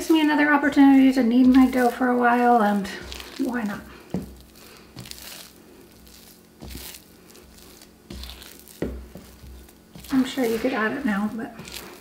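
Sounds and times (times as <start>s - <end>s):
sticky dough squishing: 0.0s - 12.0s.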